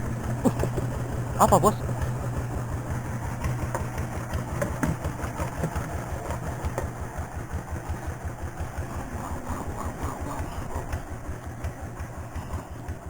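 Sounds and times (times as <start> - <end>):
boat engine puttering: 0.0 - 13.0.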